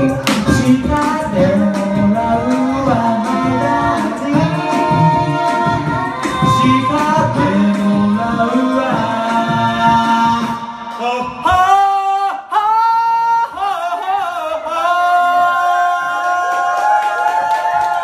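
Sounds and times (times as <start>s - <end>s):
karaoke backing track: 0.0s - 18.0s
men singing karaoke: 0.0s - 18.0s.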